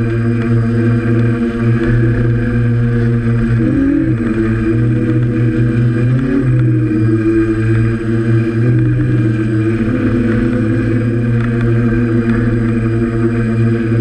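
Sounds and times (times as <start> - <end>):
drone propellers whirring: 0.0 - 14.0.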